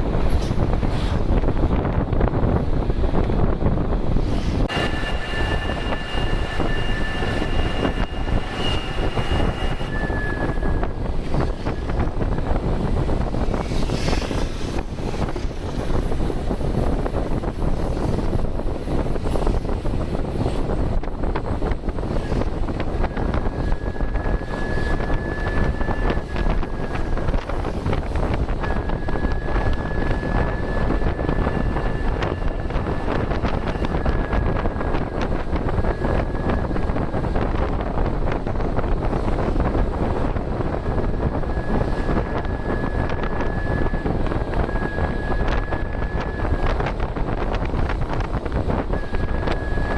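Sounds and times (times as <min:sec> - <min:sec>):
high turbo whistle: 0:04.4 - 0:49.9.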